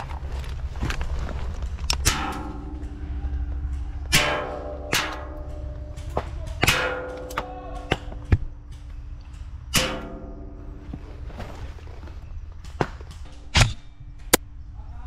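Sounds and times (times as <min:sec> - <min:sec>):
pellets striking metal: 0:01.9 - 0:14.0.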